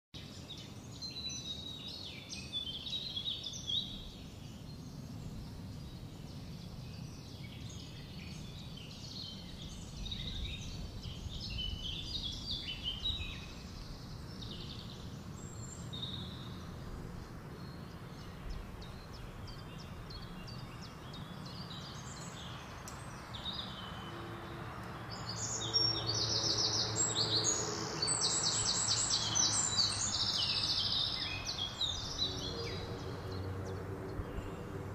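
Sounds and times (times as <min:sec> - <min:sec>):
birds singing and chirping: 0:00.2 - 0:34.9.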